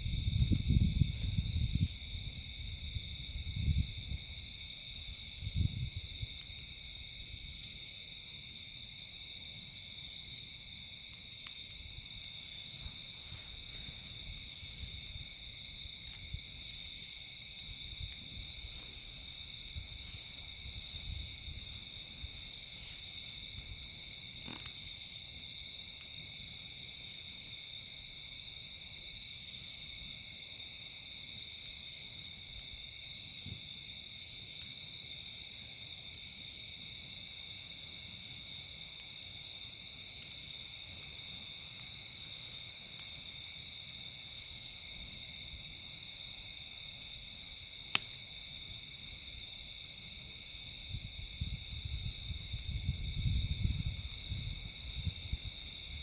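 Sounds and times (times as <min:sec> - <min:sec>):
campfire crackling: 0:00.0 - 0:56.0
night insects chirping: 0:00.0 - 0:56.0.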